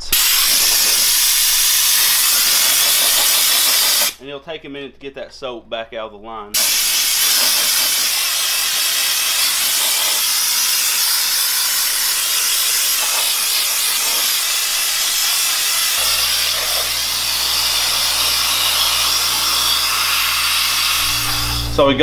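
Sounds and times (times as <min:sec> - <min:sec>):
hiss of air and water spray: 0:00.0 - 0:04.2, 0:06.6 - 0:21.7.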